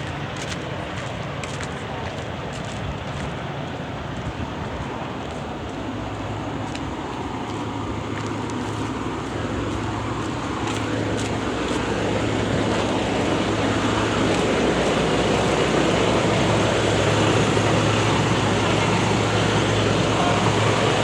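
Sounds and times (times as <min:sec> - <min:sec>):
road traffic rush: 0:00.0 - 0:21.0.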